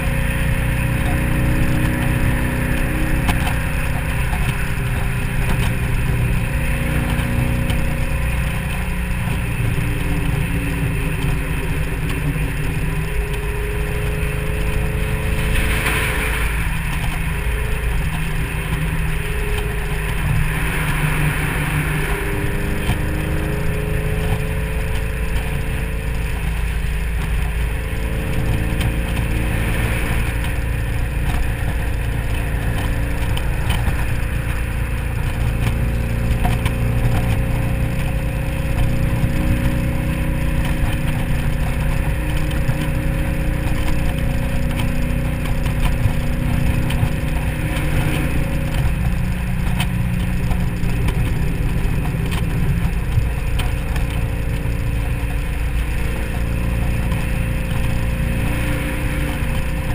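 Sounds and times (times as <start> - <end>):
car engine cruising: 0.0 - 59.9
wind and road noise: 0.0 - 59.9.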